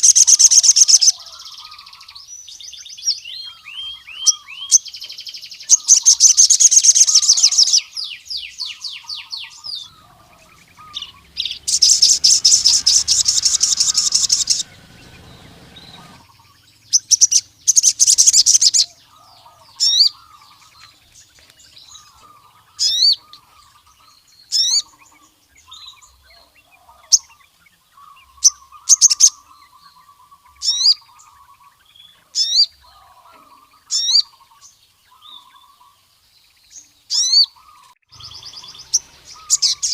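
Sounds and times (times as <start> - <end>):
bird singing high trills: 0.0 - 39.9
sharp sweeping bird calls: 0.0 - 39.9.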